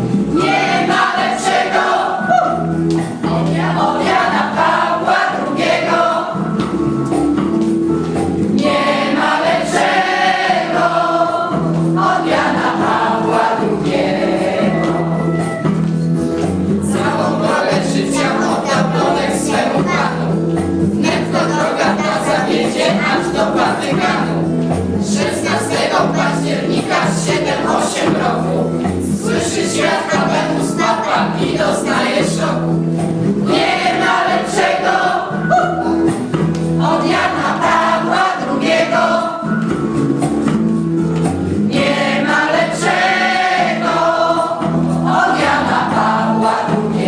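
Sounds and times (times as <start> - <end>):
group singing together: 0.1 - 7.0, 8.4 - 39.9, 41.5 - 47.0.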